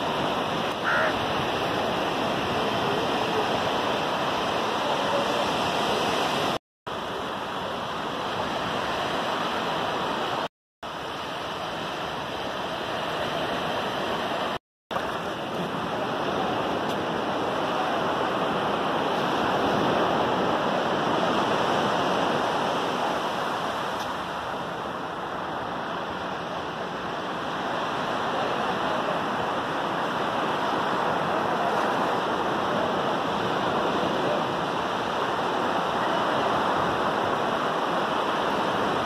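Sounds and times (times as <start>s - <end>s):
sea waves washing onto beach: 0.0s - 39.0s.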